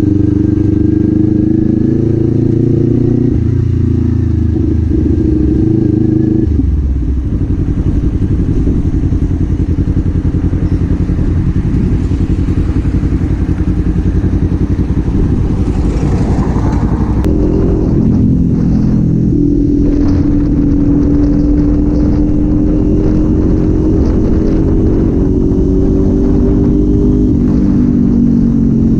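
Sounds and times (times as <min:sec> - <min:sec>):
motorcycle engine: 0:00.0 - 0:28.9.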